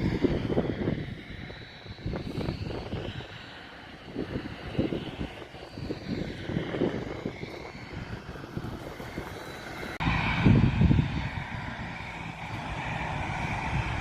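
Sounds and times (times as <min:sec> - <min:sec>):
airplane engines humming: 0:00.0 - 0:14.0.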